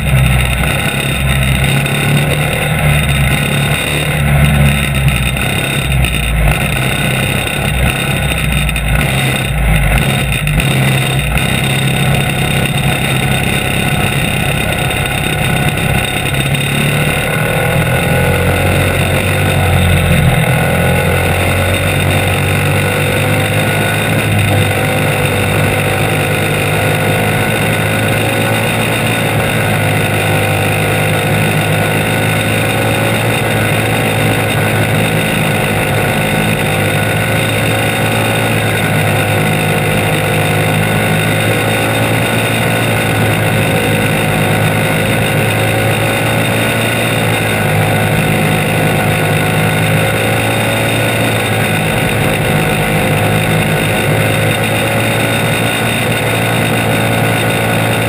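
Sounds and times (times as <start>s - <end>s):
go-kart engine at speed: 0.0s - 58.0s
other kart engines: 0.0s - 58.0s.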